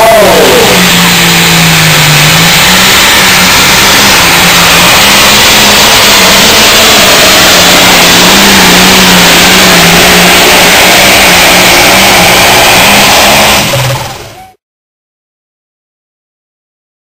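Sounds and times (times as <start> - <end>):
diesel tractor engine running under load: 0.1 - 14.5.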